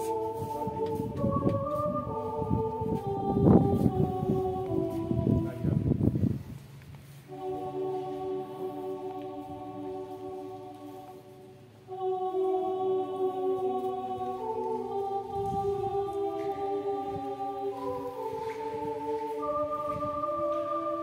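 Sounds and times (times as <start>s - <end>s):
choir singing sustained chords: 0.0s - 21.0s.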